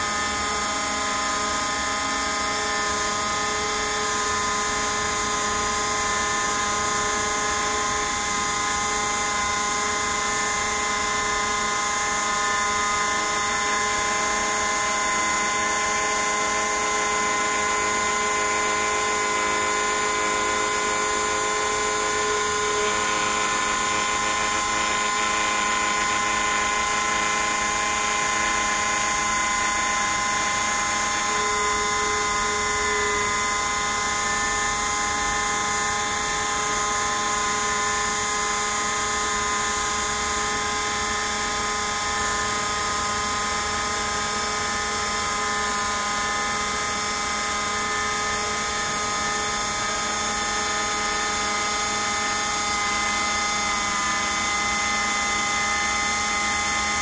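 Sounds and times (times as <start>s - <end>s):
router spindle high whine: 0.0s - 57.0s.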